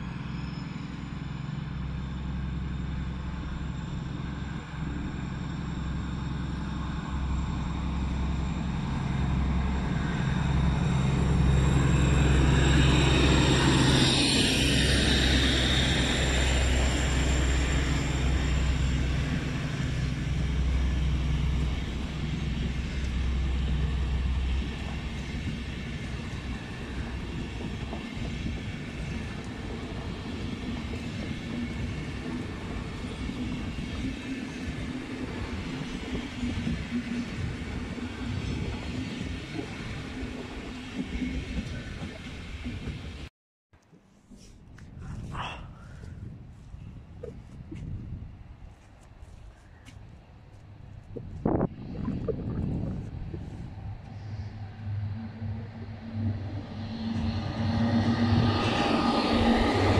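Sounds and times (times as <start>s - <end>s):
deep engine drone: 0.0s - 43.3s, 49.8s - 59.9s
train coaches rumbling on rails: 0.0s - 43.3s, 45.0s - 59.9s.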